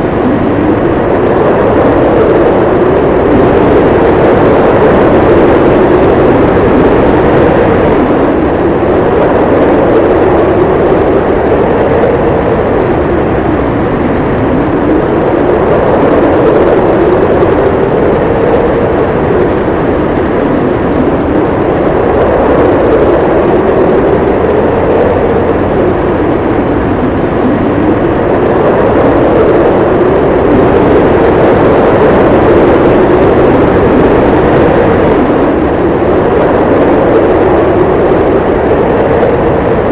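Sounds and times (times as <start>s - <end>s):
howling snowstorm wind: 0.0s - 39.9s.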